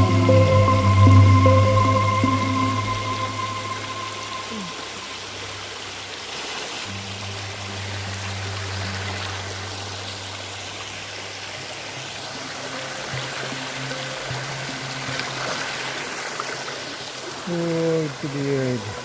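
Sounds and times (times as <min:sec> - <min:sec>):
background music low held notes: 0:00.0 - 0:05.6, 0:06.9 - 0:19.0
jungle stream rushing: 0:00.0 - 0:19.0.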